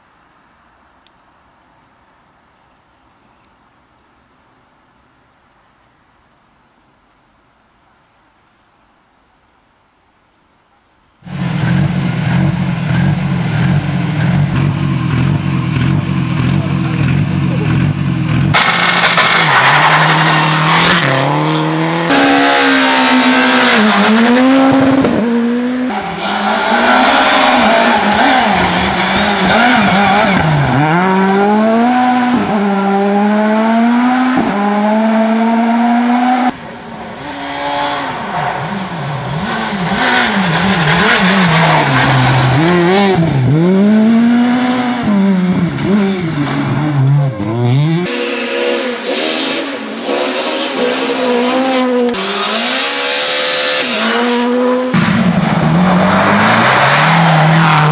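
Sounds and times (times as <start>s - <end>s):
rally car engines revving: 11.2s - 57.9s.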